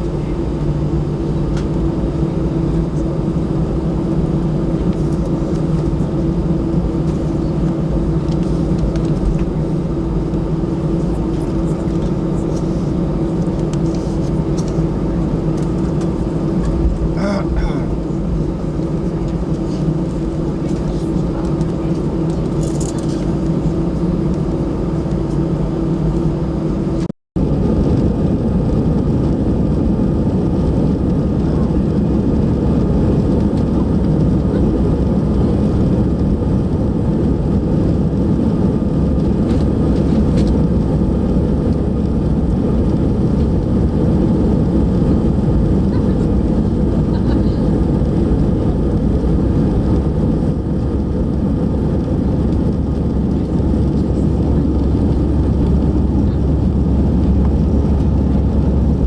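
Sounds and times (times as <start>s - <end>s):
jet engine and airflow rush: 0.0s - 59.0s
steady hum: 0.0s - 59.0s.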